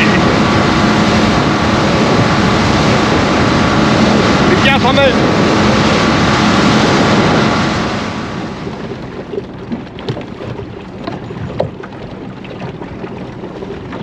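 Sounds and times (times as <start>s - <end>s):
boat engine and water rush: 0.0s - 14.0s.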